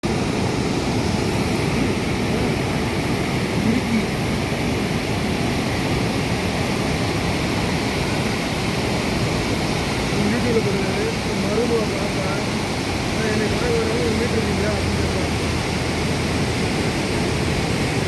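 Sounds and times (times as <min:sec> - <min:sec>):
water rushing through sluice gates: 0:00.0 - 0:18.0.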